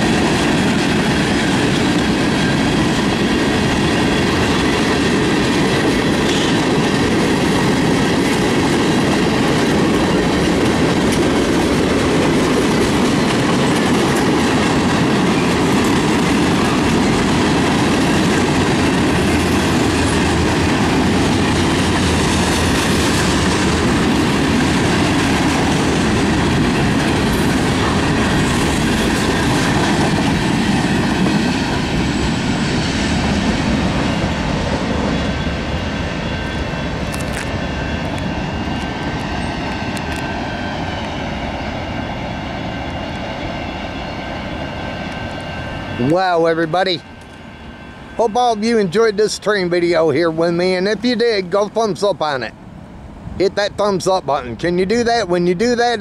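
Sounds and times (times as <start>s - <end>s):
steel train wheels rumbling on rails: 0.0s - 56.0s.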